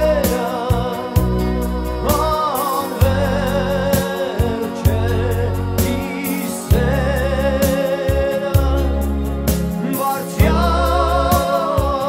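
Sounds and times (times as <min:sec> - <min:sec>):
bass and drums: 0:00.0 - 0:12.0
person singing with vibrato: 0:00.0 - 0:12.0.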